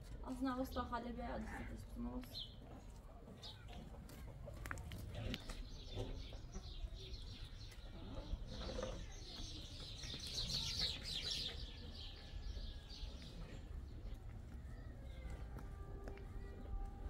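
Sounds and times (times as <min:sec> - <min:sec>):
birds chirping: 0:00.3 - 0:17.0.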